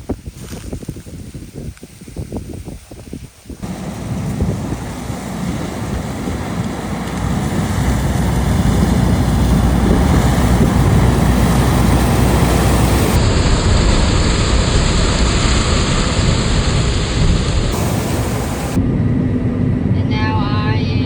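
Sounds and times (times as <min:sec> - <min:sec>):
combine harvester engine rumbling: 0:03.6 - 0:20.6.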